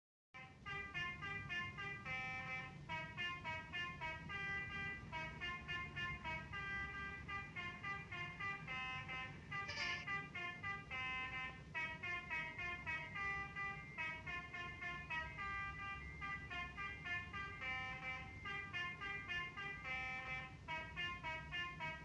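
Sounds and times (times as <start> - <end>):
multi-tone bus horn tune: 0.4 - 22.0.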